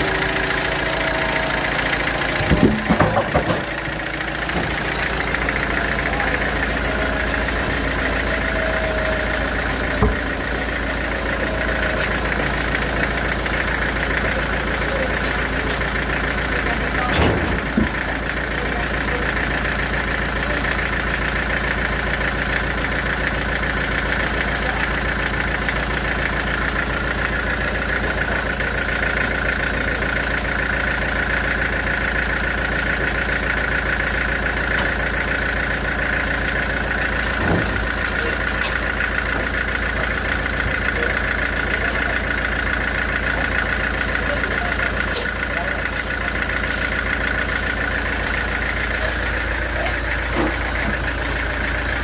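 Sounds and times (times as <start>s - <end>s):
sawmill machinery whining: 0.0s - 52.0s.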